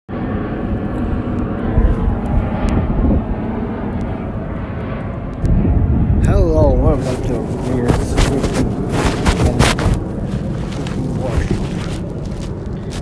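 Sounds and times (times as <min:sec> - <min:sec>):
airplane engine drone: 0:00.1 - 0:13.0.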